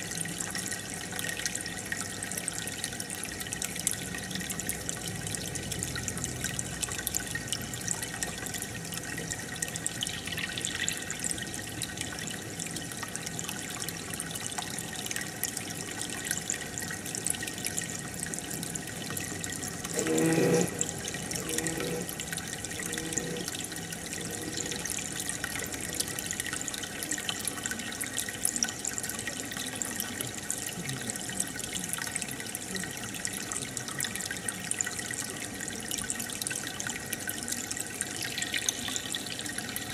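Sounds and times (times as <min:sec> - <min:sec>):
aquarium filter bubbling: 0:00.0 - 0:39.9.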